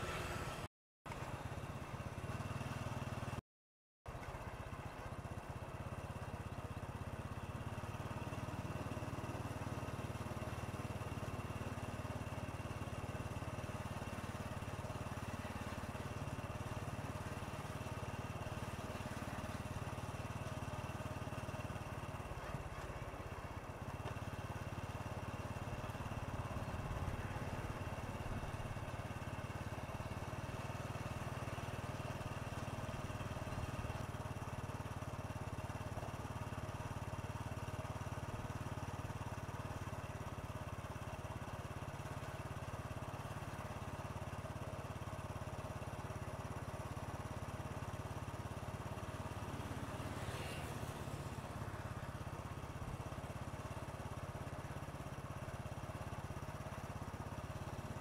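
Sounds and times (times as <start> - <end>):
vehicle engine running: 0.0 - 3.4, 4.1 - 58.0.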